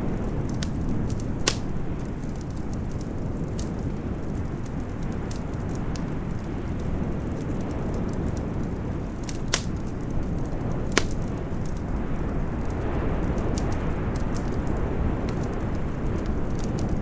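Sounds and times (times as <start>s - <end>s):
fire snapping: 0.0s - 17.0s
low wind noise: 0.0s - 17.0s
wood fire crackling: 0.0s - 17.0s.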